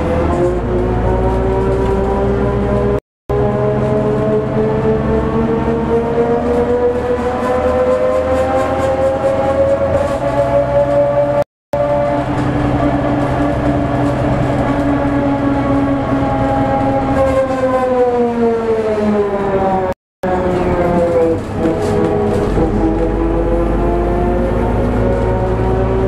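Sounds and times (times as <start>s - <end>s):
bus gear whine: 0.0s - 26.0s
low diesel engine drone: 0.0s - 26.0s.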